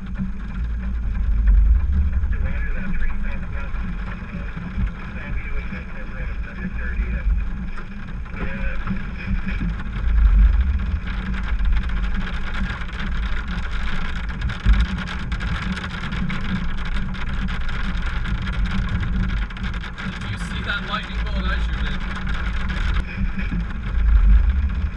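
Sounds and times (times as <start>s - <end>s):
vehicle rumble from inside cabin: 0.0s - 24.9s.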